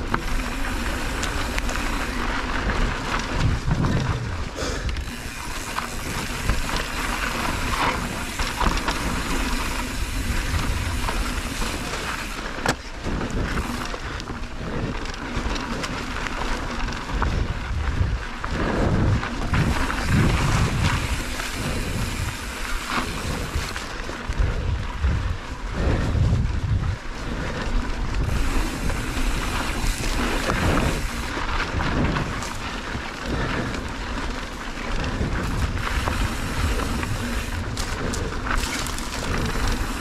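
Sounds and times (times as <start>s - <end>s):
bike tyre noise and rattling: 0.0s - 40.0s
wind buffeting microphone: 0.0s - 40.0s.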